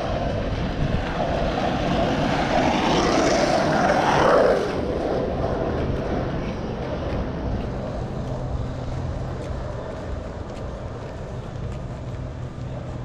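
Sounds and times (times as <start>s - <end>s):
outdoor noise: 0.0s - 13.0s
vehicle passing: 0.0s - 13.0s.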